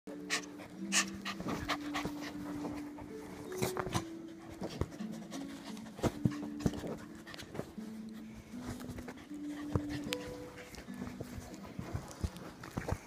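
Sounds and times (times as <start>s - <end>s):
dogs panting: 0.1s - 13.0s
dogs snapping and scuffling: 0.2s - 13.0s.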